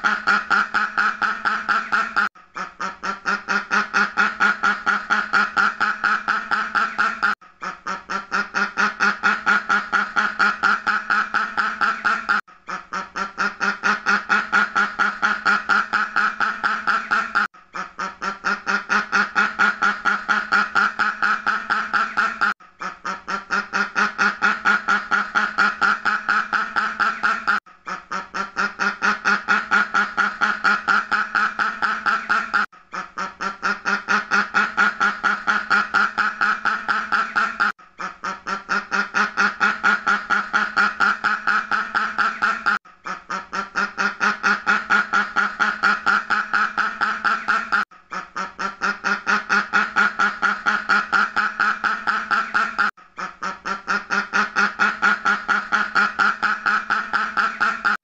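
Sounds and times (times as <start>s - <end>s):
duck quacking rapidly: 0.0s - 58.0s.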